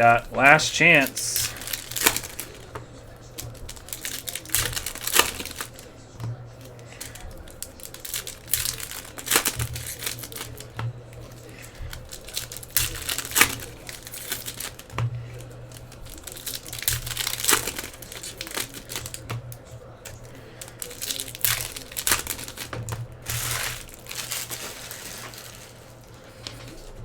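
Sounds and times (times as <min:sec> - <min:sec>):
foil wrapper crinkling: 0:00.0 - 0:27.0.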